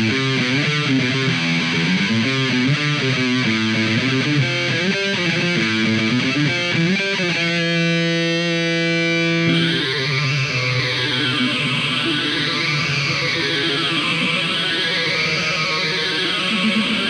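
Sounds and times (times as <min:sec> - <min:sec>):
rock music with distorted guitar: 0:00.0 - 0:17.0.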